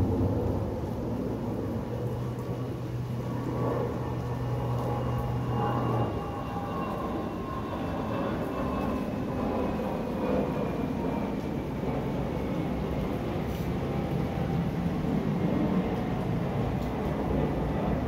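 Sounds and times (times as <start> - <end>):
low steady hum: 0.0 - 18.0
steady rain falling: 0.0 - 18.0.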